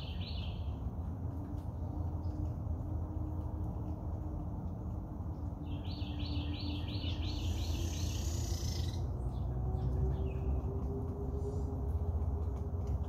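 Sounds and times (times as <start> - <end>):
low rumble of breeze: 0.0 - 13.0.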